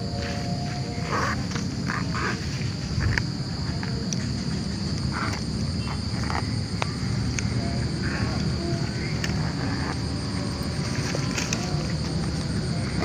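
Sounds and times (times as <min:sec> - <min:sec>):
night insects droning: 0:00.0 - 0:13.0.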